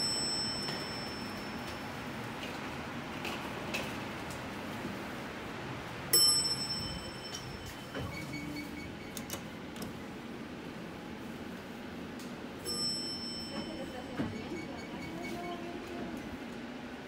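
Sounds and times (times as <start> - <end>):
elevator cab hum: 0.0 - 17.0.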